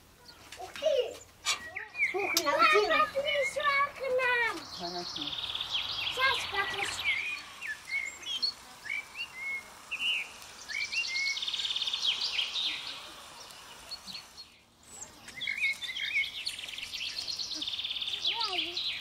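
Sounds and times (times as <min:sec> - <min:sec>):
faint background hiss: 0:00.0 - 0:19.0
small birds chirping and trilling: 0:00.0 - 0:19.0.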